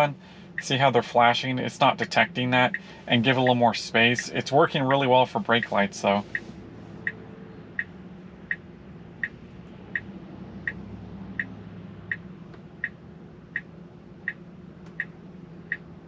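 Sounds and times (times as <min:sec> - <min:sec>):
low cabin hum: 0:00.0 - 0:16.0
turn signal ticking: 0:00.0 - 0:16.0.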